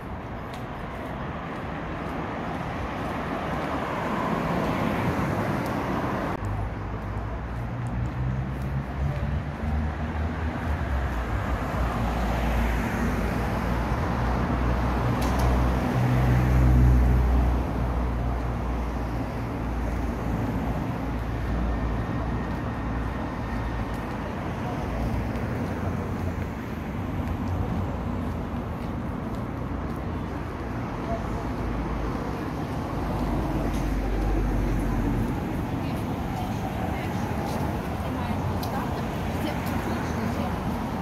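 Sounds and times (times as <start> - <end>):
traffic hum: 0.0 - 41.0.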